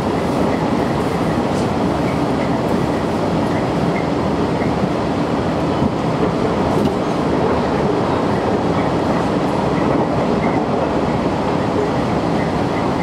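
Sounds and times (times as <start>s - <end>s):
diesel railcar running: 0.0s - 13.0s.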